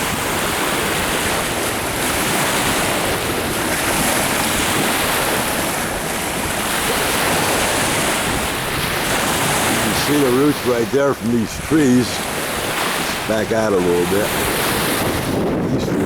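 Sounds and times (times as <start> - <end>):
waves washing against shore: 0.0 - 16.0
wind rushing over microphone: 0.0 - 16.0.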